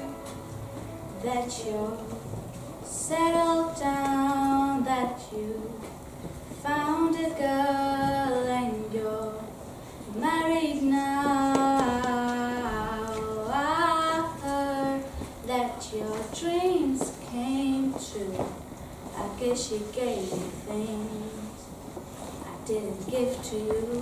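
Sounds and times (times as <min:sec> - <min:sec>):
girl singing unaccompanied: 0:00.0 - 0:21.8, 0:22.4 - 0:24.0.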